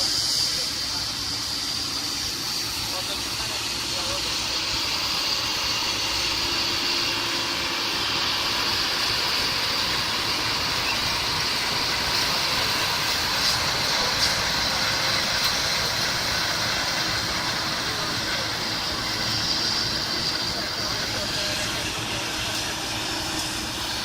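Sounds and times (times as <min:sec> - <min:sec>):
combine harvester running: 0:00.0 - 0:24.0
high hiss: 0:00.0 - 0:24.0.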